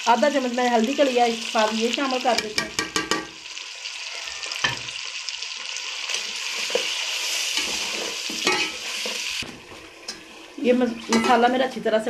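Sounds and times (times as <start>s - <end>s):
spiced masala sizzling in a pot: 0.0s - 12.0s.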